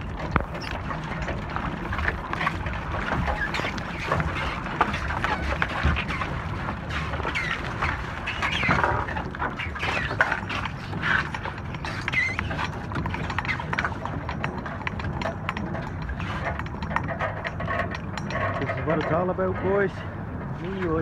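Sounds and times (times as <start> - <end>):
machine reels clicking and knocking: 0.2 - 21.0.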